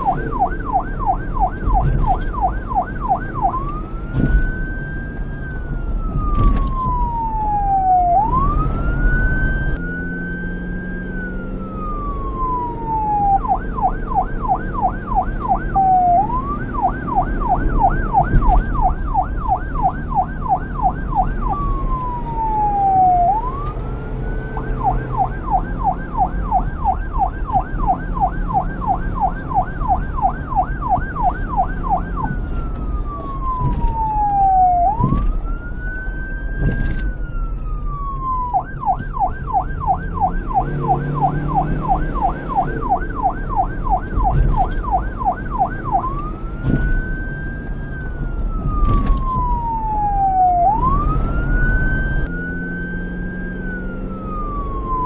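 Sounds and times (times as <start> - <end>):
police siren wailing and yelping: 0.0 - 55.0.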